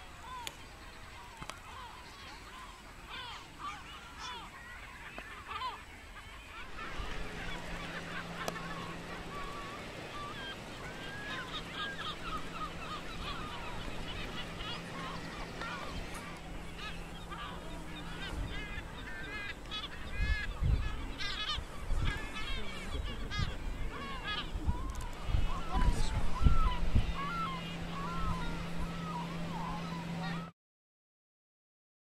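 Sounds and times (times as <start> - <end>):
low steady hum: 0.0 - 30.5
seabirds calling: 0.0 - 30.5.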